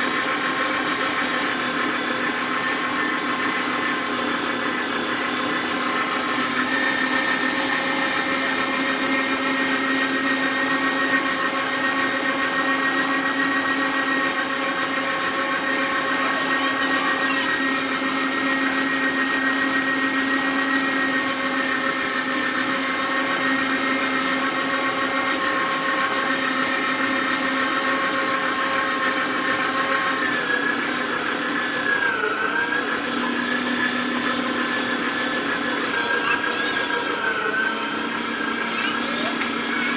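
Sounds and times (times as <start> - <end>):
electric meat grinder running: 0.0 - 39.9.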